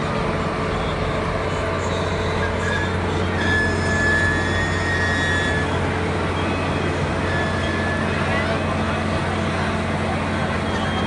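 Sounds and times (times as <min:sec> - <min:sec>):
high wheel squeal: 0:00.0 - 0:11.0
train wheels rumbling on rails: 0:00.0 - 0:11.0.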